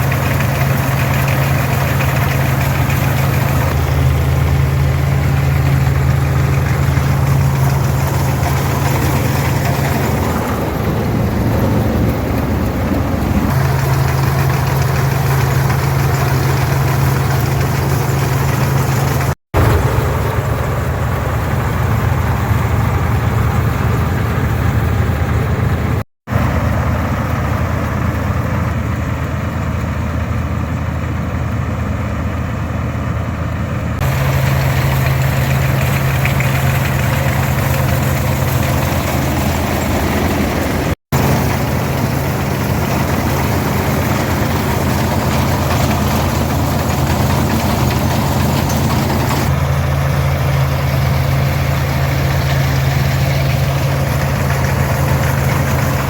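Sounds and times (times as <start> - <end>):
combine mechanical rumble: 0.0 - 56.0
tractor engine drone: 0.0 - 56.0.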